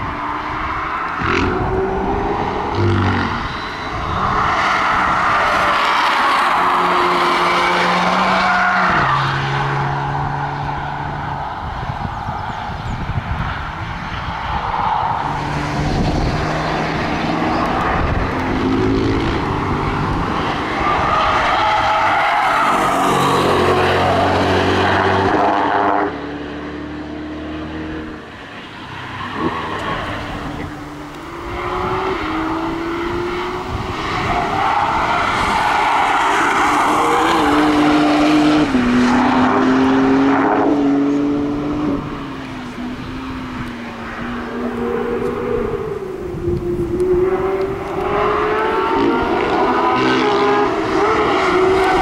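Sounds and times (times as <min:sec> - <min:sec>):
car engines accelerating: 0:00.0 - 0:52.0.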